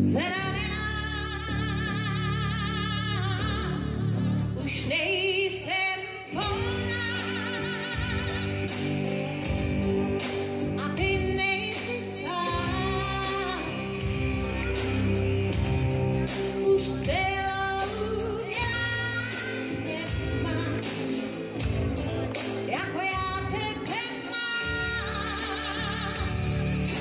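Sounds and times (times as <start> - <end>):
pop band playing: 0.0 - 27.0.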